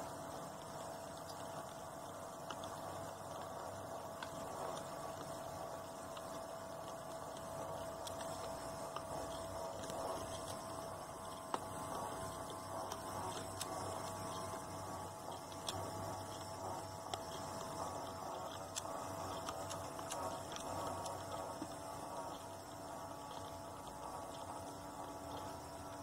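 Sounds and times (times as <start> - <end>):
electrical hum: 0.0 - 26.0
faint clicks: 0.4 - 26.0.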